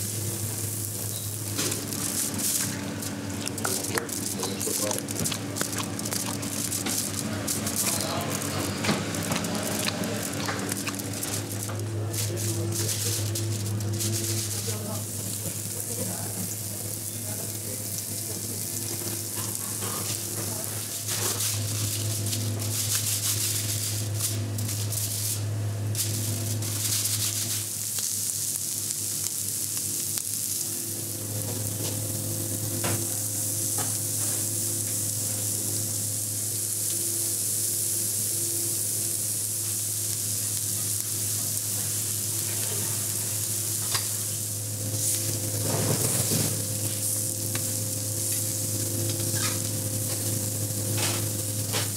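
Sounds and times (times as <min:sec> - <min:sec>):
meat sizzling on a grill: 0:00.0 - 0:51.9.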